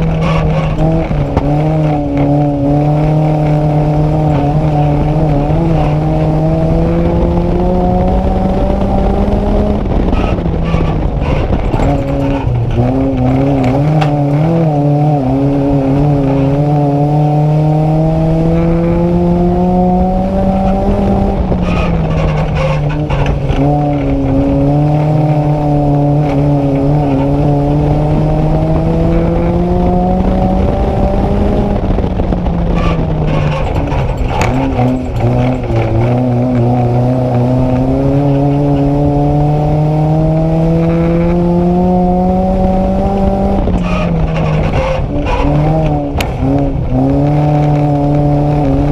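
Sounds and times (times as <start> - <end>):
car knocks and rattles: 0.0 - 48.9
race car engine revving: 0.0 - 48.9.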